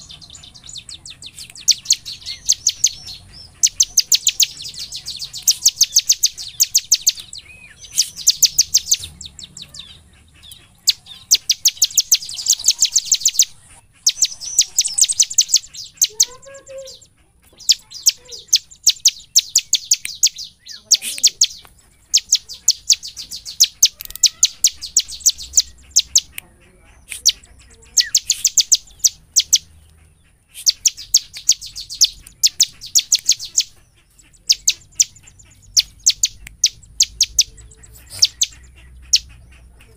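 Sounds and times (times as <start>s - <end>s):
bird singing high repeated notes: 0.0s - 26.4s, 27.0s - 29.8s, 30.5s - 39.6s.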